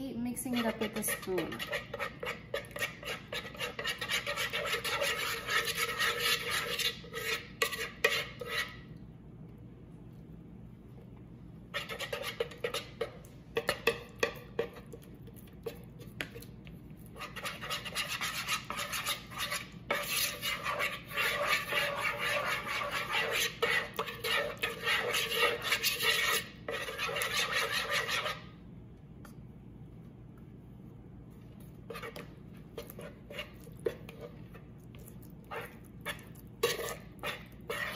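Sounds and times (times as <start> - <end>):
spoon scraping bowl: 0.4 - 8.9, 11.7 - 28.5, 31.6 - 37.9.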